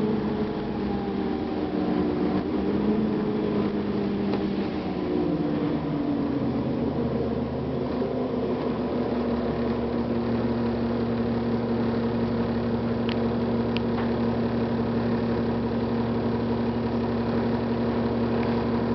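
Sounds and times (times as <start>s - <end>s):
bus diesel engine idling: 0.0s - 18.9s.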